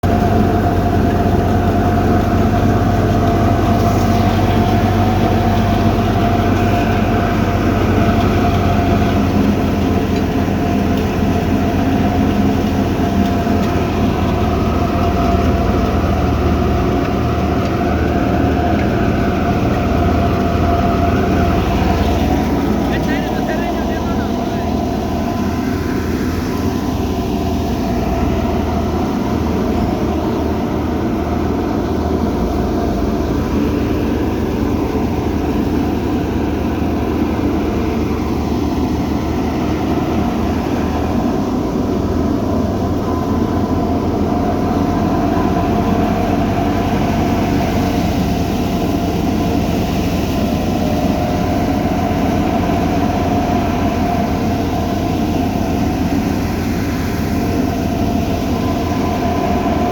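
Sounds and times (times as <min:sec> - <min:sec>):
harvester engine rumble: 0:00.0 - 0:59.9
mechanical whine: 0:00.0 - 0:59.9.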